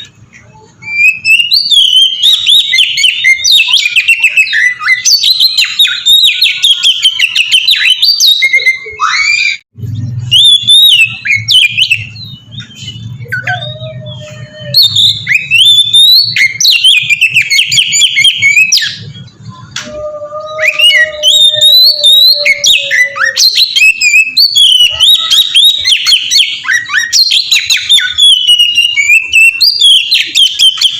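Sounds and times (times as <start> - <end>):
bird singing chirps and whistles: 0.0 - 30.9.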